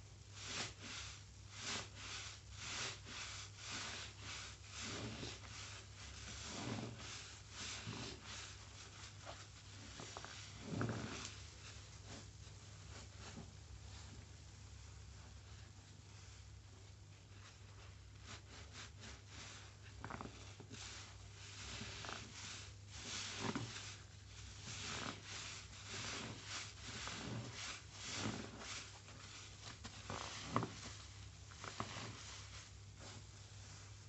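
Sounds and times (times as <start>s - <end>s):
wet sponge squelching: 0.4s - 14.2s, 17.3s - 33.8s.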